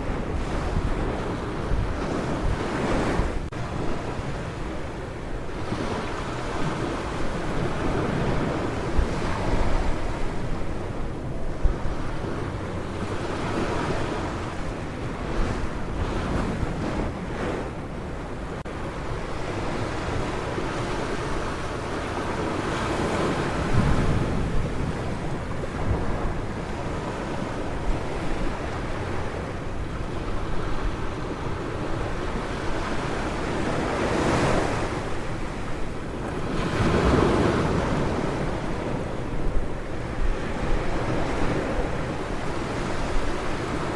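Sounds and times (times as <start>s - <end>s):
sea waves breaking on beach: 0.0s - 43.9s
wind on microphone: 0.0s - 43.9s.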